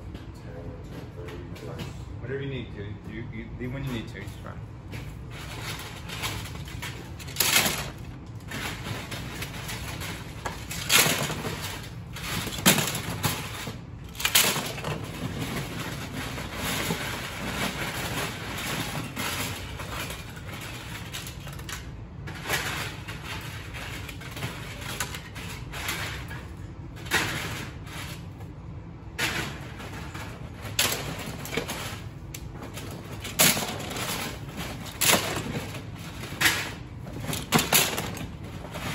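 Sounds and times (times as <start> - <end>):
plastic bricks clattering: 5.3 - 28.4, 29.1 - 38.9.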